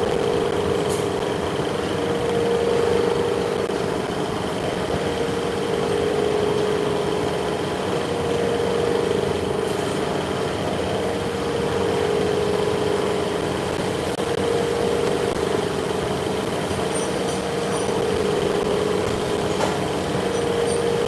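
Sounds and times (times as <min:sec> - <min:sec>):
faint high whine: 0:00.0 - 0:21.0
machinery humming: 0:00.0 - 0:21.0.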